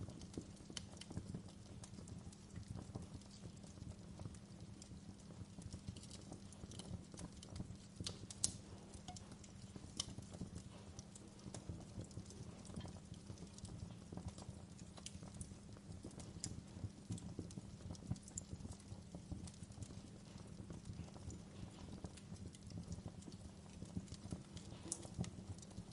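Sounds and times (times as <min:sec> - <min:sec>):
campfire crackling and popping: 0:00.0 - 0:25.9
low rumble of flames: 0:00.0 - 0:25.9.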